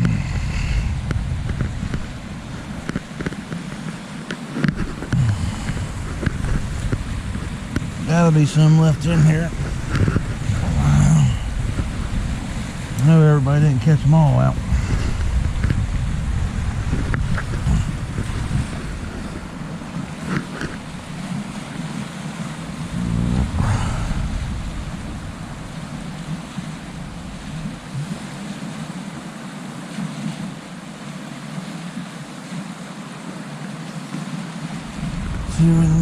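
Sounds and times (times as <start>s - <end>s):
wind buffeting microphone: 0.0s - 31.0s, 34.6s - 36.0s
flowing stream: 0.0s - 36.0s.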